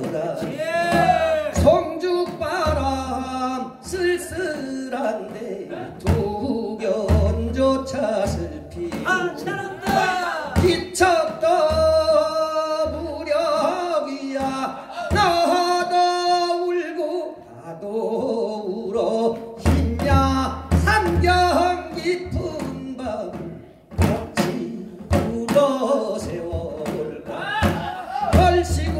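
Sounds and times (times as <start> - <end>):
drum strokes: 0.0 - 16.9, 18.2 - 28.9
man singing into a microphone: 0.0 - 28.9.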